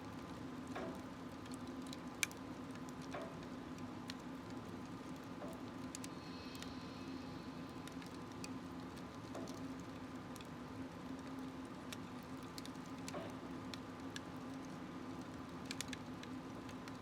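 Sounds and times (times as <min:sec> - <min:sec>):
firewood crackling and popping: 0:00.1 - 0:06.7, 0:07.7 - 0:17.0.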